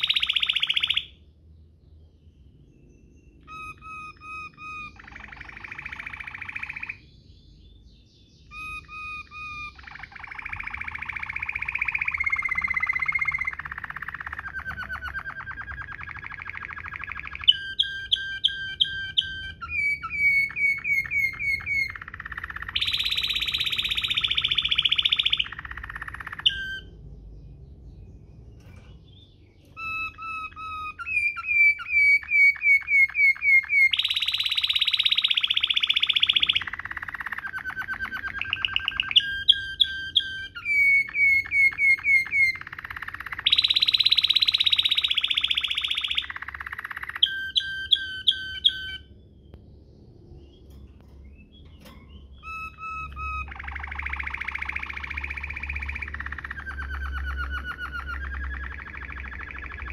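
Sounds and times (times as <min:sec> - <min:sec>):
canary singing with buzzing rolls: 0:00.0 - 0:01.3, 0:01.9 - 0:59.9.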